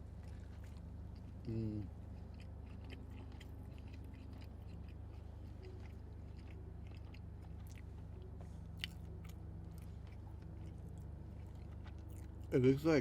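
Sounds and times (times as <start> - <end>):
chewing soft food: 0.0 - 13.0
steady low hum: 0.0 - 13.0.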